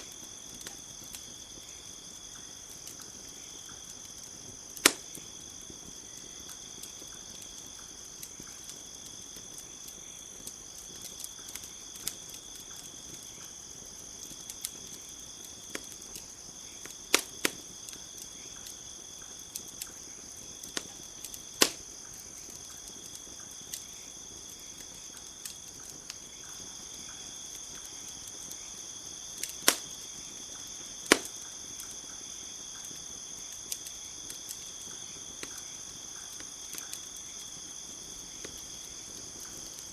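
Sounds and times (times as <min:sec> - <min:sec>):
campfire crackling and popping: 0:00.0 - 0:39.9
high insect chorus: 0:00.0 - 0:39.9.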